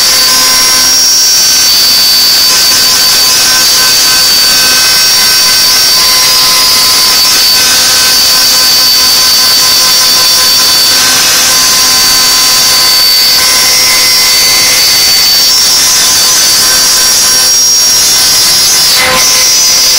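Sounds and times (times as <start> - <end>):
router spindle high whine: 0.0 - 19.9.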